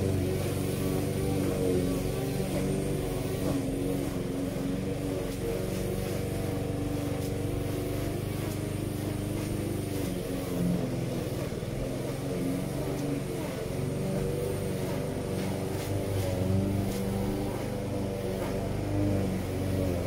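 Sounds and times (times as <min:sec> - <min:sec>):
lawn mower engine running: 0:00.0 - 0:20.0
string trimmer engine running: 0:00.0 - 0:20.0.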